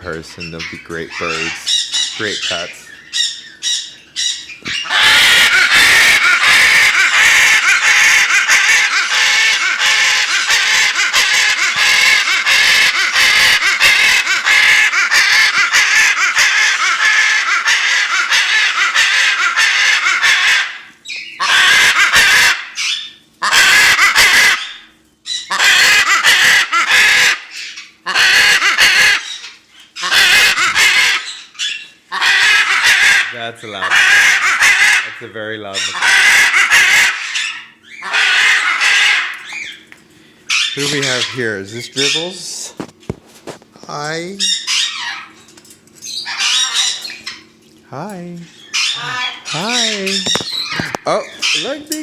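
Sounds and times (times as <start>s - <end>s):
macaw screaming: 0.4s - 39.8s, 40.5s - 42.7s, 43.9s - 45.4s, 46.1s - 47.4s, 48.0s - 52.0s.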